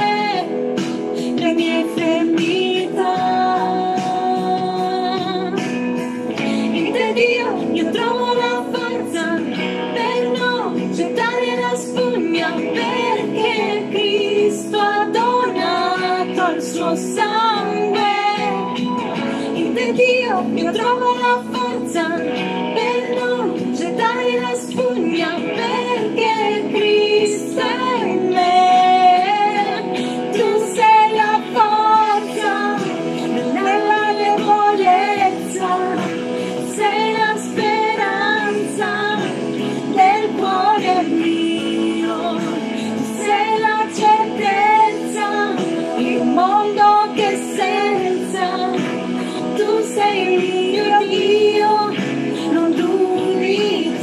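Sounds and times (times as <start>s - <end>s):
instrumental backing music: 0.0s - 54.0s
woman singing worship song: 0.0s - 54.0s.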